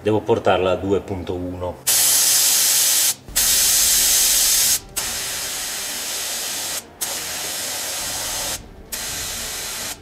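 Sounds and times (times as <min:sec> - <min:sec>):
air hissing from tyre valve: 0:01.9 - 0:10.0.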